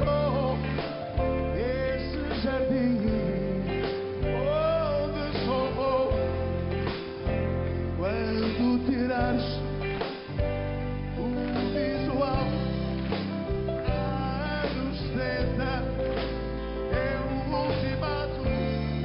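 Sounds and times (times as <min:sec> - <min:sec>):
man singing pop-rock song: 0:00.0 - 0:10.4, 0:11.1 - 0:19.0
live rock band playing: 0:00.0 - 0:19.0.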